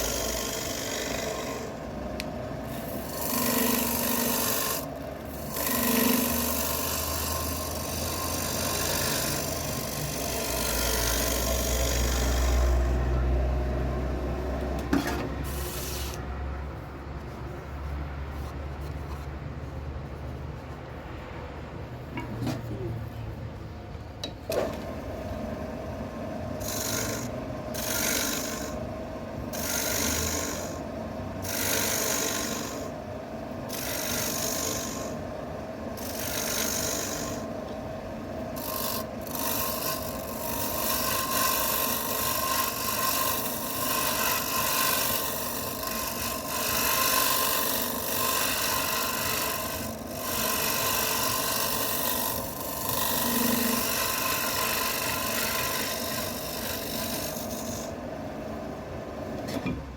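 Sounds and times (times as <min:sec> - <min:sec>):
wood lathe running: 0:00.0 - 0:16.2, 0:24.5 - 0:58.0
tool scraping spinning wood: 0:00.0 - 0:22.9, 0:26.4 - 0:33.0, 0:33.6 - 0:37.7, 0:38.4 - 0:58.0.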